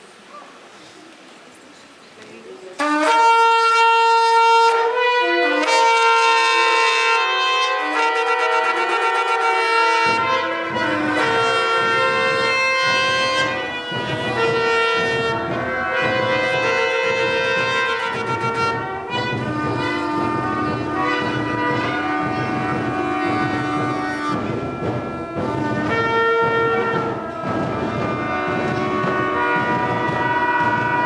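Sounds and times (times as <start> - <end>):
shofar blowing: 2.8 - 31.0
steady low beat: 3.1 - 31.0.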